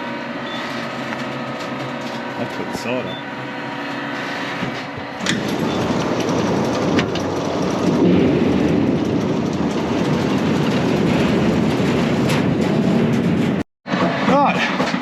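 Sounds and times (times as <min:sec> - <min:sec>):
harvester machinery rattling: 0:00.3 - 0:15.0.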